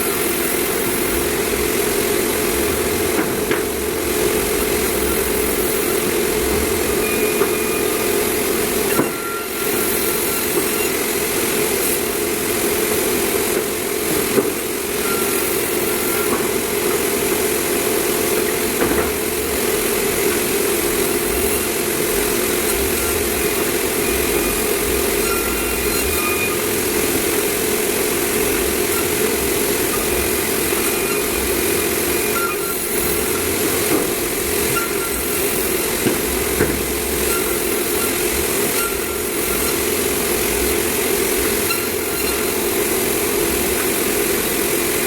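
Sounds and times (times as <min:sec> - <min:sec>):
sawmill machinery cutting timber: 0:00.0 - 0:45.0.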